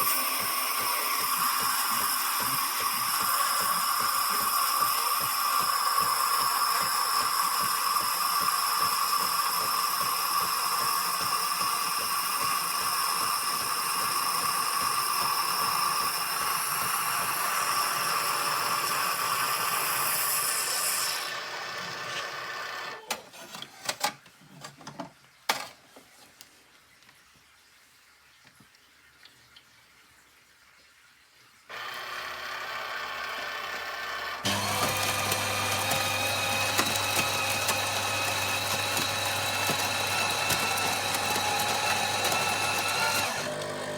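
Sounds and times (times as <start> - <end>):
coffee machine whirring: 0.0 - 24.0, 31.7 - 43.9.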